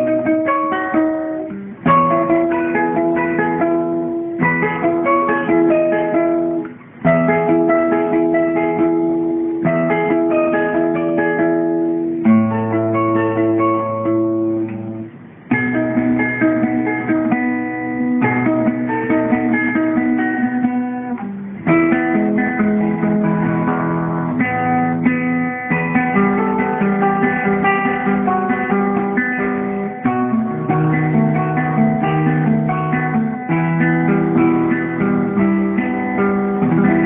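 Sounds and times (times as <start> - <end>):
acoustic guitar classical piece: 0.0 - 37.0.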